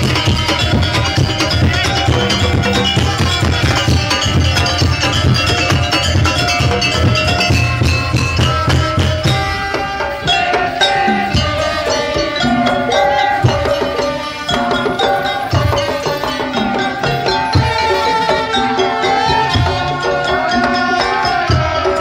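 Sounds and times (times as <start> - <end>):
many drums beating fast: 0.0 - 22.0
melody over drumming: 0.0 - 22.0.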